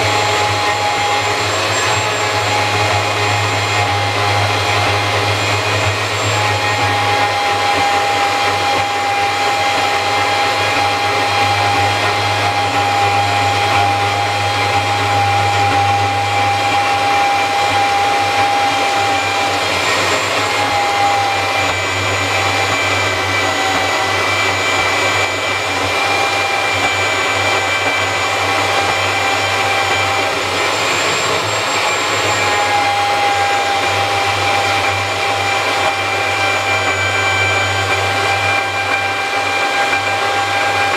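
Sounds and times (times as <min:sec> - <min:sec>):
band saw motor whining: 0:00.0 - 0:40.9.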